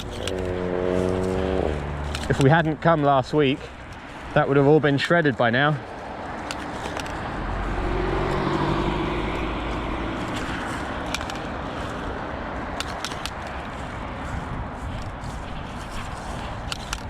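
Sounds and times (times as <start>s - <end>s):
road traffic rushing past: 0.0s - 17.0s
vehicle with low engine passing: 0.0s - 17.0s.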